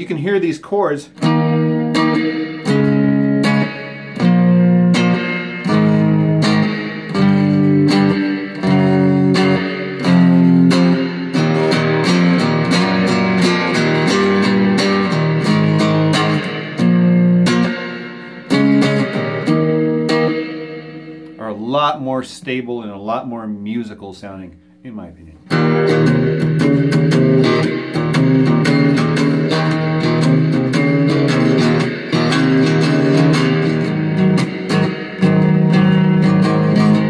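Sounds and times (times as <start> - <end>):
cigar box guitar strumming chords: 0.0 - 37.0.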